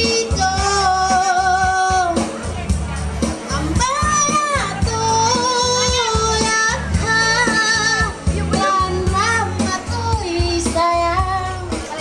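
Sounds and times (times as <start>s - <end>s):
woman singing karaoke: 0.0s - 2.5s, 3.4s - 12.0s
backing track with steady beat: 0.0s - 12.0s.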